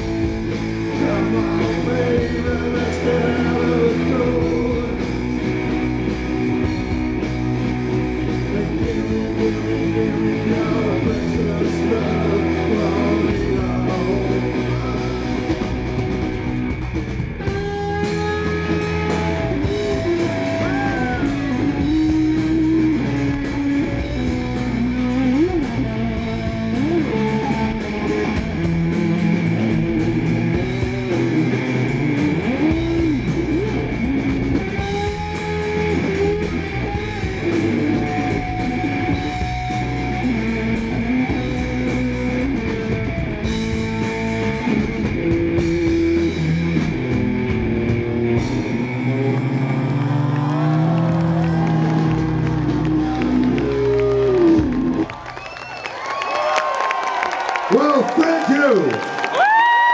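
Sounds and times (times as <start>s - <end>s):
electric guitar bending notes: 0.0s - 55.4s
rock band playing: 0.0s - 59.9s.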